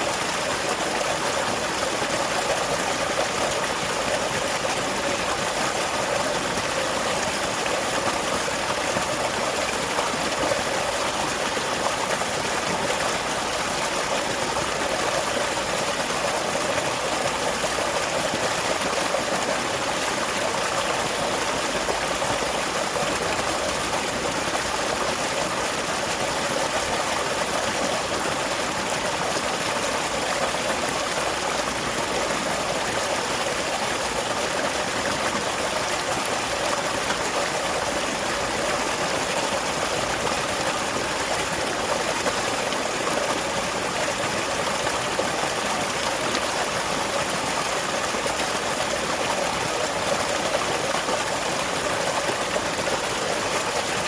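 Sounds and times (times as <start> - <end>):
small waterfall pouring into stream: 0.0 - 54.0.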